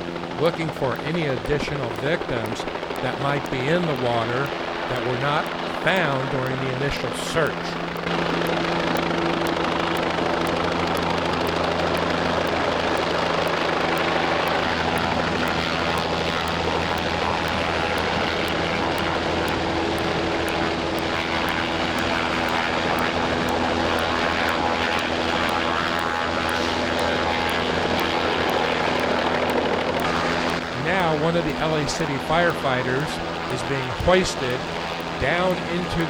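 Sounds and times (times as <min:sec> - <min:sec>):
helicopter hovering: 0:00.0 - 0:36.0.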